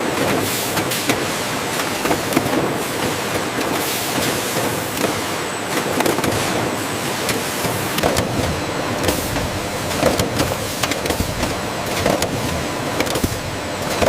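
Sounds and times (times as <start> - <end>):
industrial machinery running: 0.0 - 14.0.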